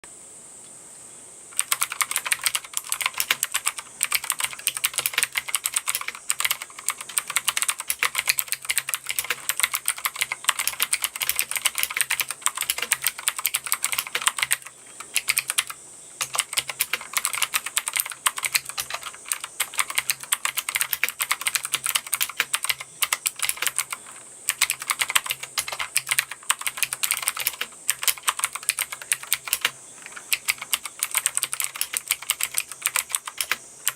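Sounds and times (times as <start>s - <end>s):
fast typing on mechanical keyboard: 1.6s - 33.9s.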